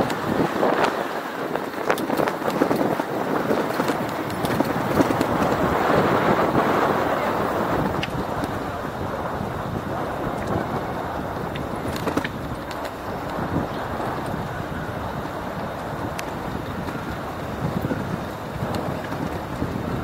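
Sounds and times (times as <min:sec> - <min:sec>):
bicycle rolling noise: 0:00.0 - 0:20.0
wind rush on microphone: 0:00.0 - 0:20.0.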